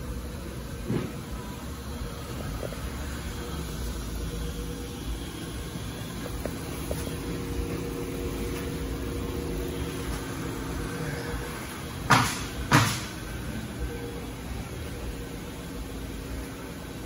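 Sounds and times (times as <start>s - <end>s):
industrial machine humming: 0.0s - 17.0s.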